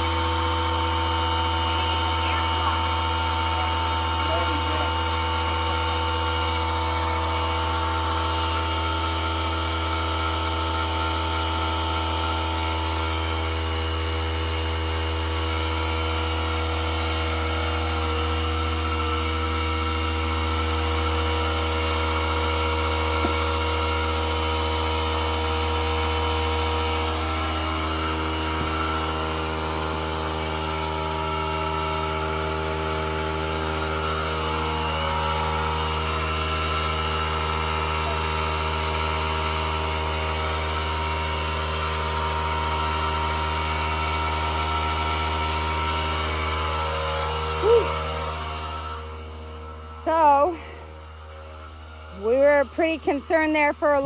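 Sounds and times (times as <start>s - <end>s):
electric motor hum: 0.0s - 54.0s.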